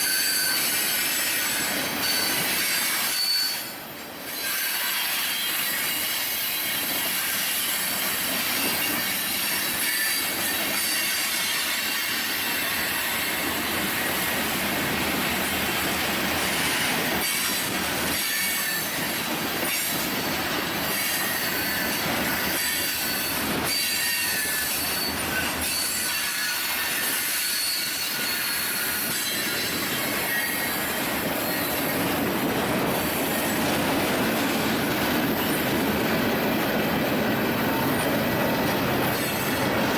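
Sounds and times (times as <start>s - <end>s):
train wheels squealing: 0.0s - 39.9s.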